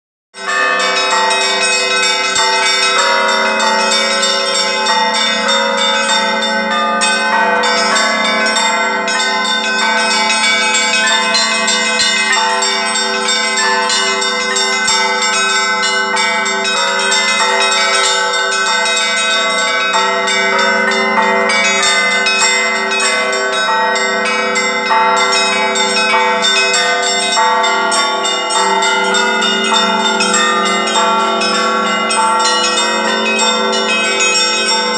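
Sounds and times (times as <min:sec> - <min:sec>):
church bells pealing: 0:00.4 - 0:34.9.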